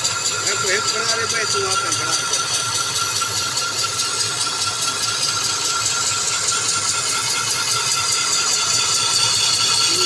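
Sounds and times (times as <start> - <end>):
engine running with a rattle: 0.0 - 10.0.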